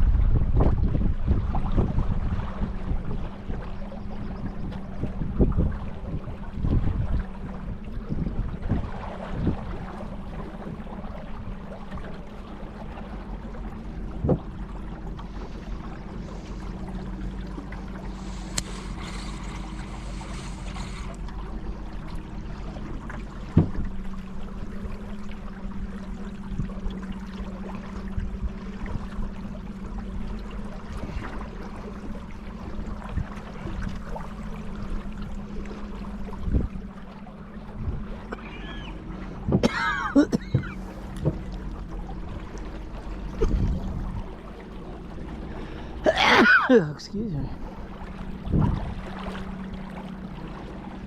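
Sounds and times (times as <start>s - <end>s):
steady low hum: 0.0s - 51.0s
water trickling and splashing: 0.0s - 51.0s.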